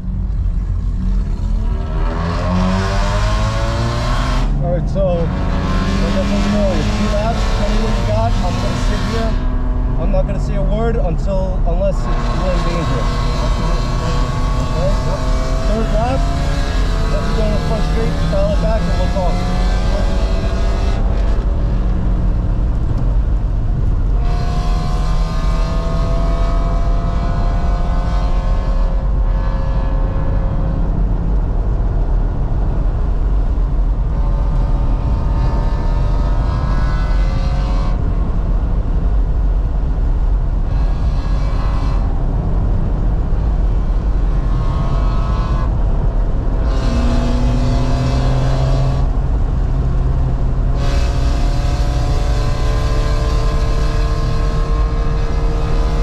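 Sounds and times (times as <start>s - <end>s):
car engine revving under full throttle: 0.0s - 56.0s
road and wind noise: 0.0s - 56.0s.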